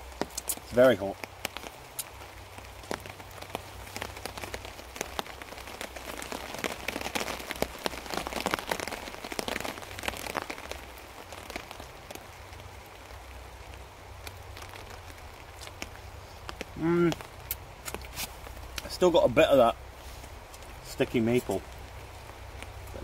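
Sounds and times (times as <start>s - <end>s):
rain pattering on a tarp: 0.0s - 23.0s.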